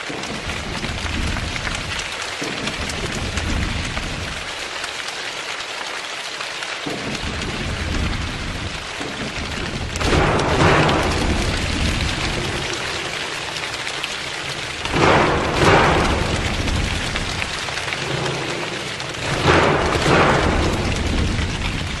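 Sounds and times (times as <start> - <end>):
people imitating rain patter: 0.0 - 22.0.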